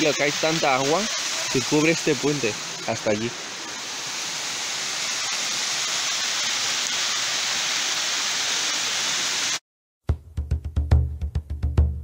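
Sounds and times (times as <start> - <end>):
waterfall rushing into pool: 0.0 - 9.6.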